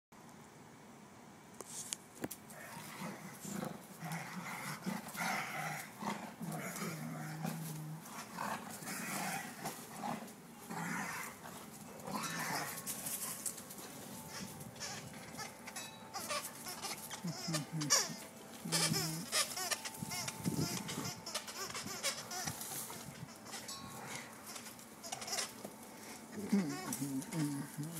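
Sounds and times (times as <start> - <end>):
dogs growling: 2.5 - 27.9.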